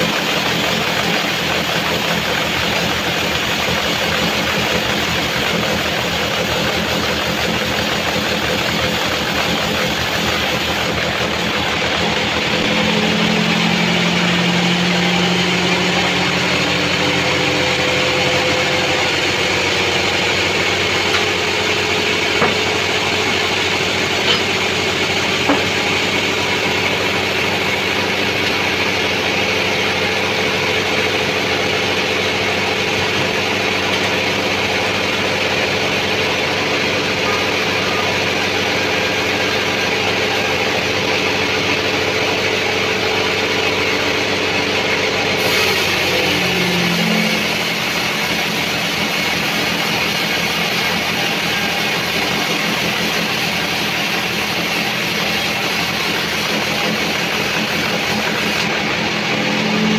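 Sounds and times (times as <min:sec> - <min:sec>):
band sawmill sawing log: 0:00.0 - 0:59.9.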